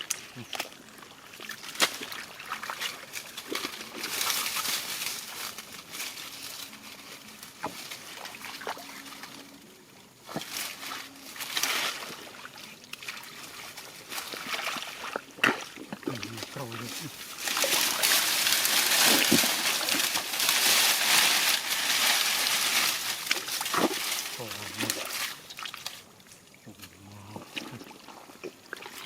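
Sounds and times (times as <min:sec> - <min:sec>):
water sloshing and trickling: 0:00.0 - 0:29.0.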